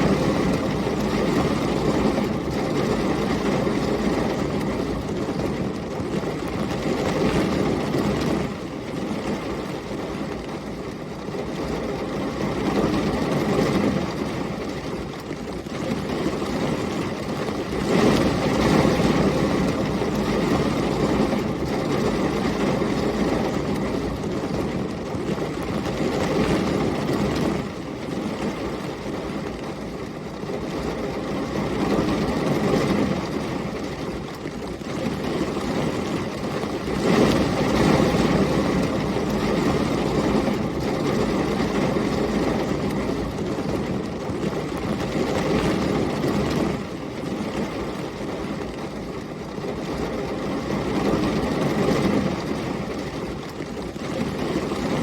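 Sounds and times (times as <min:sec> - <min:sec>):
heavy rain with storm wind: 0:00.0 - 0:55.0.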